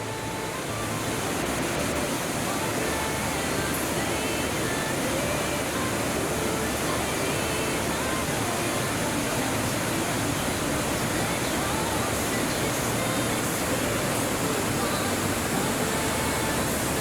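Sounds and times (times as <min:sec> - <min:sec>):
waterfall roar: 0:00.0 - 0:17.0.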